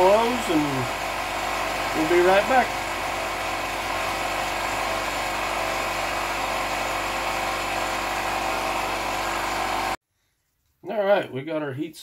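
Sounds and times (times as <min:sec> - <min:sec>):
air compressor motor drone: 0:00.0 - 0:10.0
heat gun blowing: 0:00.0 - 0:10.0.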